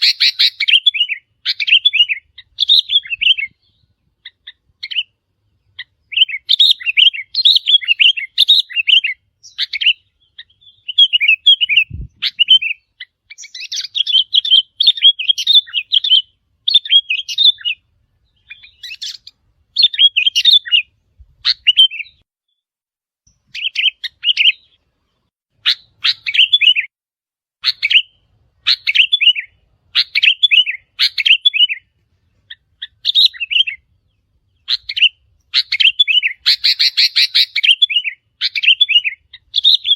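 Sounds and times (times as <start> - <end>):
bird chirping: 0.0 - 22.6, 23.2 - 26.9, 27.6 - 39.9.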